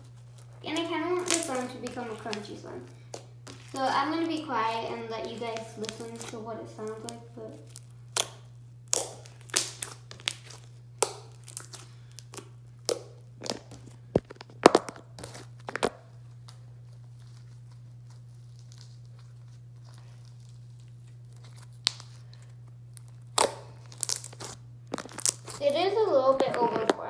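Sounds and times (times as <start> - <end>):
low hum: 0.0 - 27.0
slime crackling and popping: 0.0 - 27.0.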